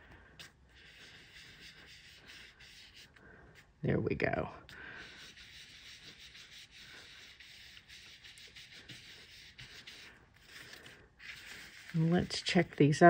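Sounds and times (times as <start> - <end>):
brush rubbing on card: 0.0 - 3.8, 4.6 - 13.0.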